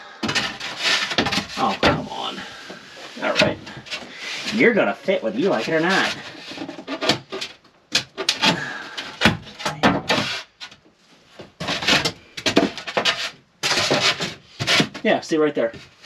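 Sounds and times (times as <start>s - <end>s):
foam scraping against wood: 0.2s - 9.4s, 10.1s - 16.0s.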